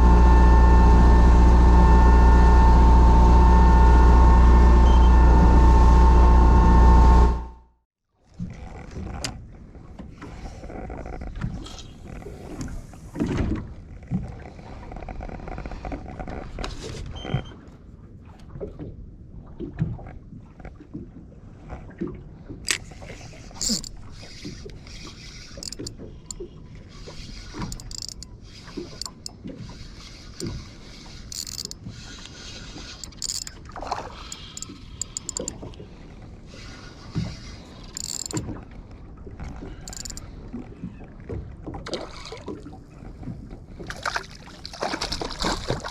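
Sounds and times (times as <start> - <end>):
wind and sea rumble: 0.0 - 45.9
water splashing against boat hull: 8.2 - 45.9.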